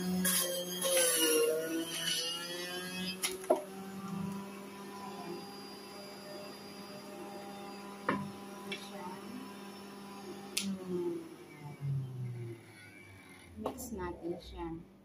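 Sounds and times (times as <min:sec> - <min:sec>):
juicer motor humming: 0:00.0 - 0:13.6.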